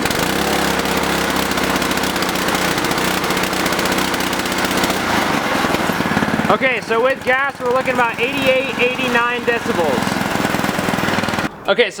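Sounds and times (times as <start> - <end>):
small engine revving: 0.0 - 11.5.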